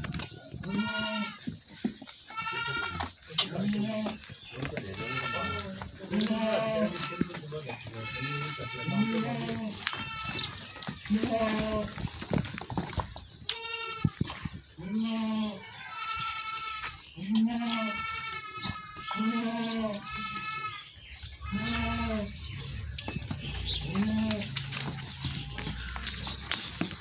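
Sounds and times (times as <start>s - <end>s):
goats bleating: 0.6s - 1.6s, 2.2s - 12.2s, 13.5s - 27.0s.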